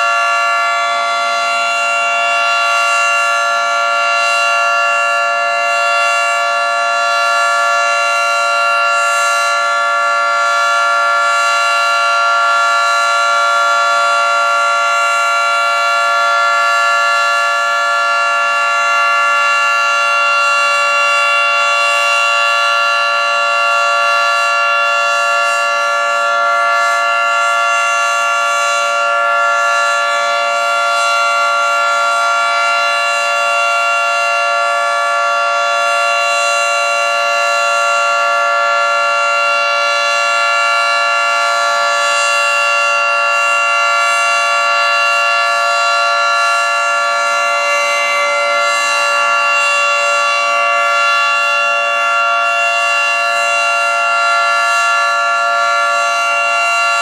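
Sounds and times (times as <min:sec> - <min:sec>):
three-tone warning siren: 0:00.0 - 0:57.0.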